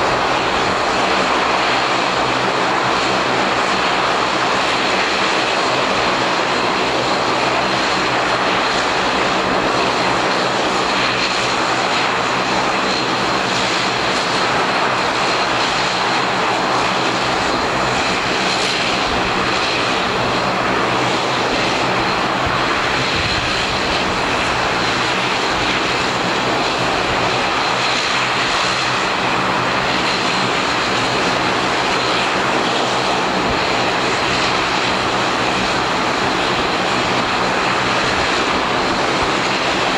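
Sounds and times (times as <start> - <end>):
turboprop engines idling: 0.0 - 39.9.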